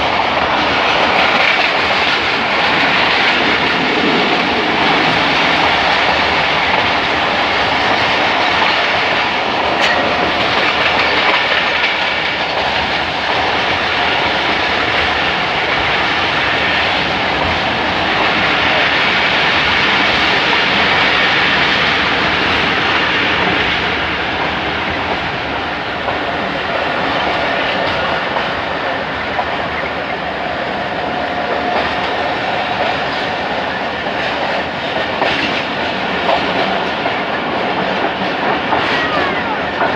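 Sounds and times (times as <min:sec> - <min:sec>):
train wheels clicking on rail joints: 0:00.0 - 0:39.9.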